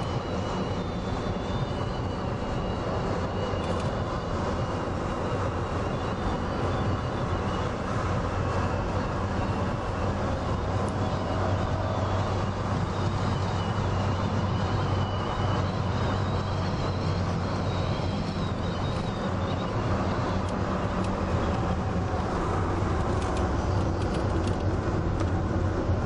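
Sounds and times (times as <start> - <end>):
road and engine noise: 0.0 - 26.0.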